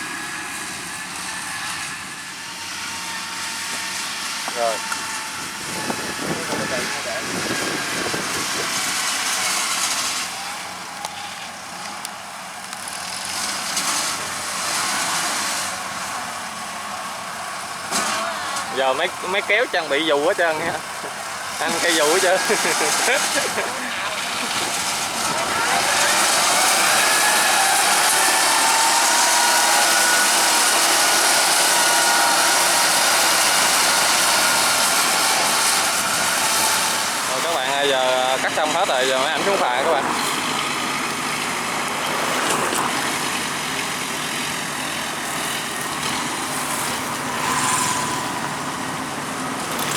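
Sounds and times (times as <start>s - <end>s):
farm machinery engines running: 0.0s - 49.9s.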